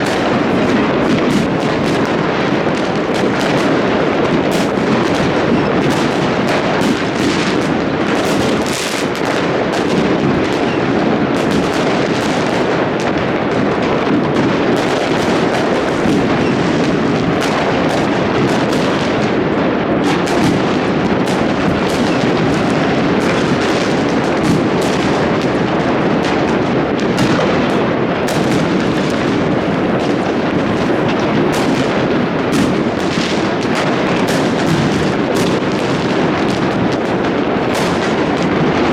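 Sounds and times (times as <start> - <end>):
fireworks and firecrackers crackling: 0.0 - 38.9.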